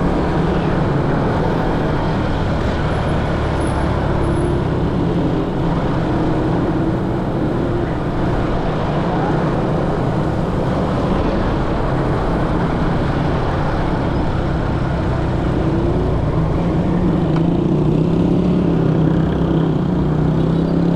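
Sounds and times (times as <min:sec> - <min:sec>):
motorcycle engine humming: 0:00.0 - 0:20.9
road traffic noise: 0:00.0 - 0:20.9.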